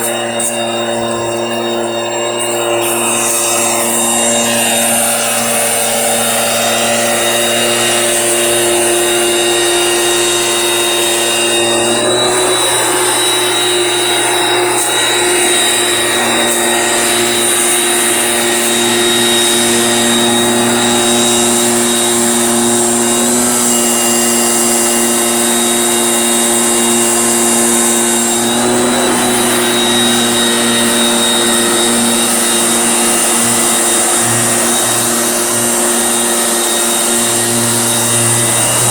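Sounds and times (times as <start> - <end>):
small sprayer pump engine running: 0.0 - 38.9.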